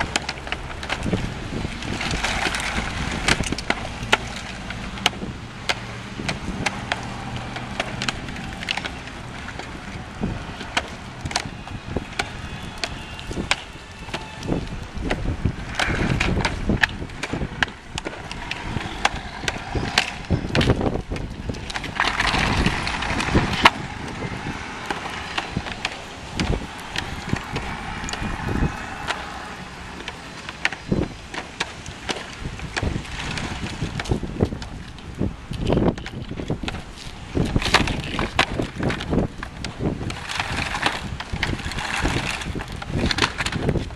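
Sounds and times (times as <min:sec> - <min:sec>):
plastic panels clacking on asphalt: 0:00.0 - 0:43.9
wind rumble on microphone: 0:00.0 - 0:43.9.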